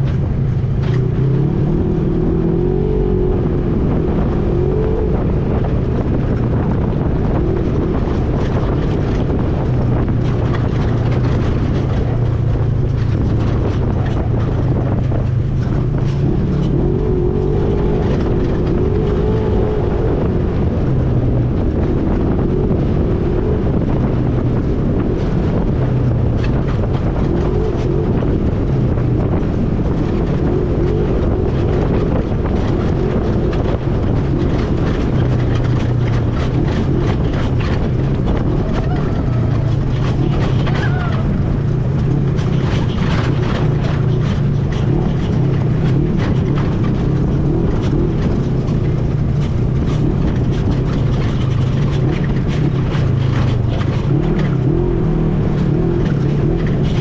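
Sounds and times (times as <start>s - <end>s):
quad bike engine revving: 0.7s - 57.0s.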